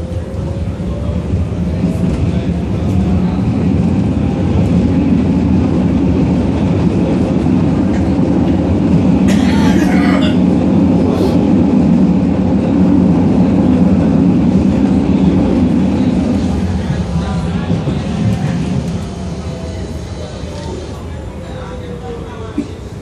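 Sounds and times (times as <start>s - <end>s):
tram wheels on rails: 0.0s - 23.0s.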